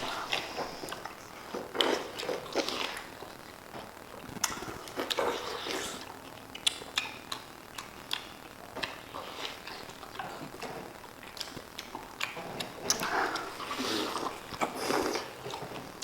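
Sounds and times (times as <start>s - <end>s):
person chewing watermelon: 0.0s - 16.0s.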